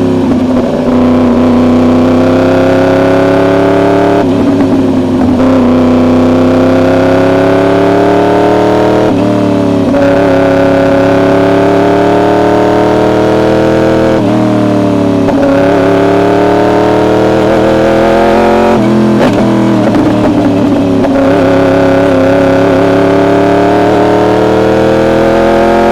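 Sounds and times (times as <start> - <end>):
motorcycle engine revving high: 0.0 - 25.9.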